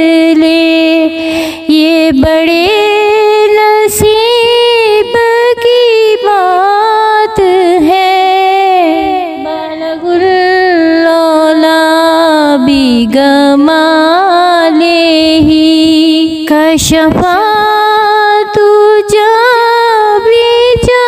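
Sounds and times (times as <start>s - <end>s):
person singing devotional song: 0.0s - 21.0s.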